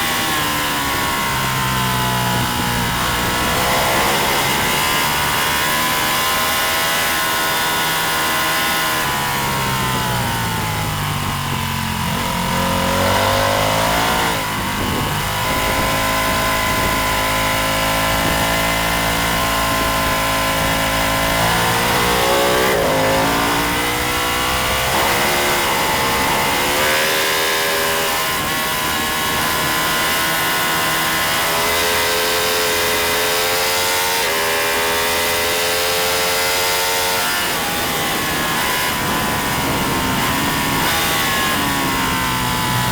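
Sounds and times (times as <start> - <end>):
racing motorcycle engine revving: 0.0 - 42.9.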